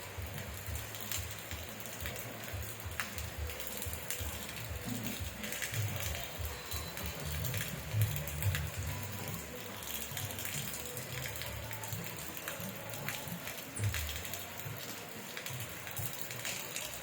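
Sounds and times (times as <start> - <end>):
rain drops and drips: 0.0 - 17.0
steady rain hiss: 0.0 - 17.0.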